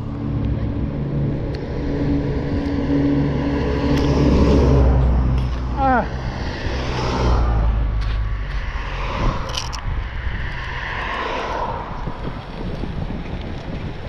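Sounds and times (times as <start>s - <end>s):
road traffic: 0.0s - 14.0s
wind rumbling on microphone: 0.0s - 14.0s.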